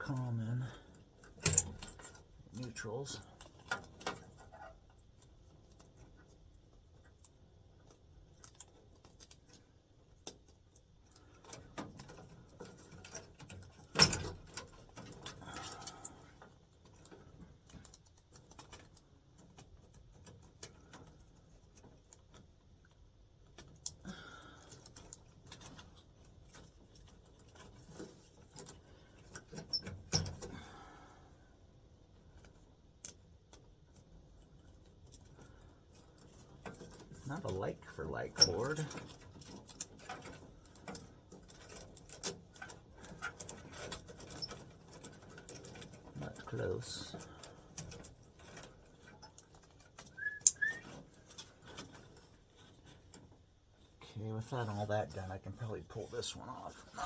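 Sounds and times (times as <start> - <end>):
wires and connectors rattling: 0.0 - 30.8, 31.6 - 57.0.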